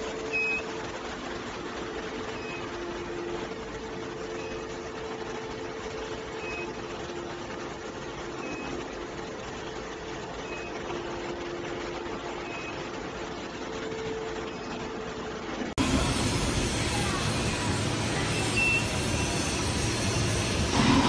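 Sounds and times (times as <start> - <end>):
factory machinery humming: 0.0 - 21.0.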